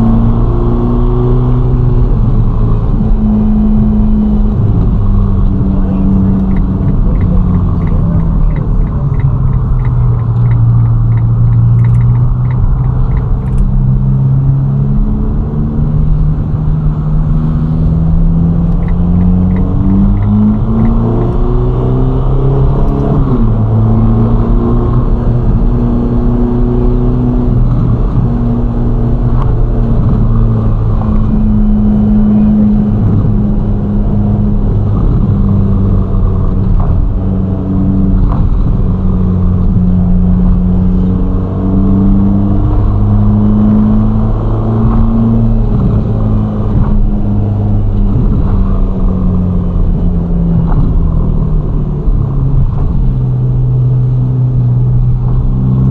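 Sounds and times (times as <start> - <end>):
car engine cruising: 0.0 - 55.9
road and tyre noise: 0.0 - 55.9.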